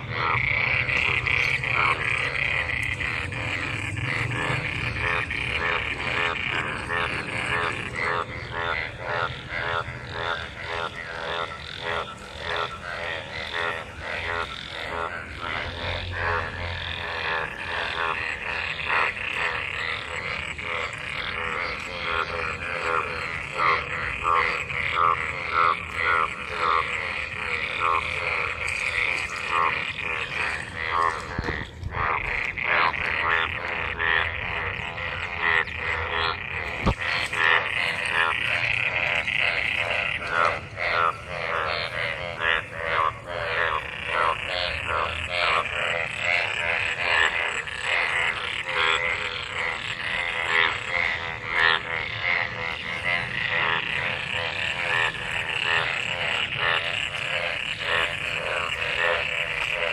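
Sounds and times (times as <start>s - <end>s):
frogs croaking in chorus: 0.0s - 59.9s.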